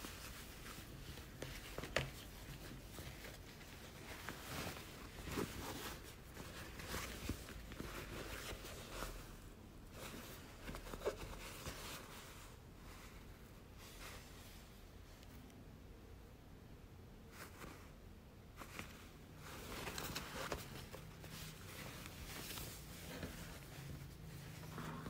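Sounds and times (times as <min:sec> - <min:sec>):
fabric rustling: 0:00.0 - 0:15.3, 0:17.2 - 0:25.0.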